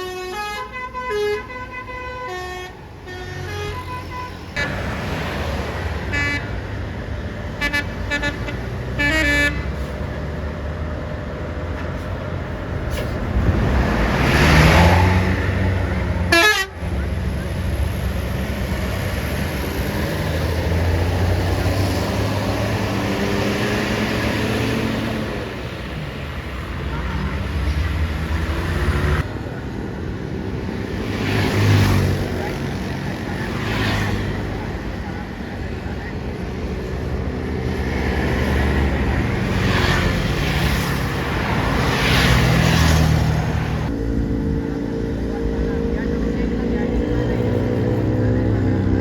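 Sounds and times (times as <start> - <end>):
bus diesel engine: 0.0 - 49.0.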